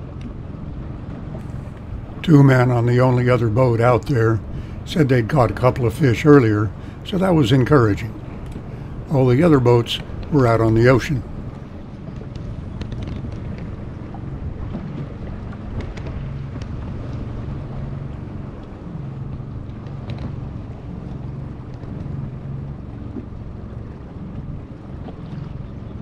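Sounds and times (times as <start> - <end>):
water splashing along hull: 0.0 - 26.0
outboard motor running: 1.2 - 26.0.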